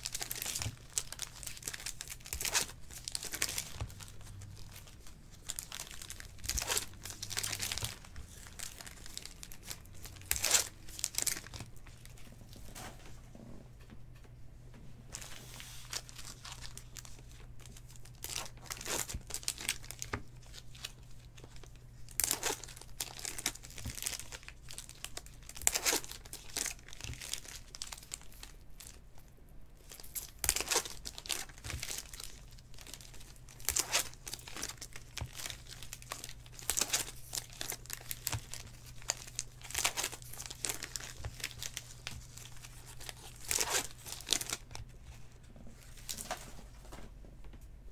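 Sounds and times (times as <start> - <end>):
foil wrappers tearing and crinkling: 0.0 - 12.3, 15.2 - 29.0, 29.9 - 44.8
faint low hum: 0.0 - 47.9.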